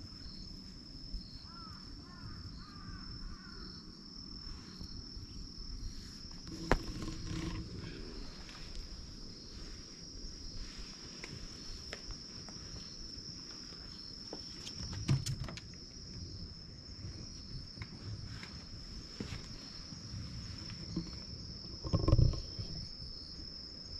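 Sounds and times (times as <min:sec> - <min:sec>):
insects singing drone: 0:00.0 - 0:23.9.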